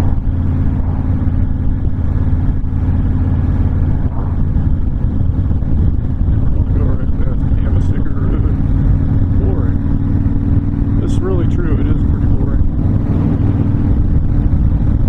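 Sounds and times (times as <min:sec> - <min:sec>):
motorcycle engine cruising: 0:00.0 - 0:15.0
wind rushing: 0:00.0 - 0:15.0.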